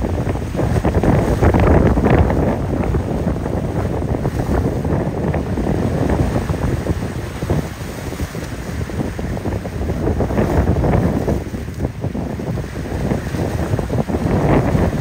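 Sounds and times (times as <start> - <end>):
breaking waves and surf: 0.0 - 15.0
motor yacht plowing through chop: 0.0 - 15.0
wind buffeting microphone: 0.0 - 15.0.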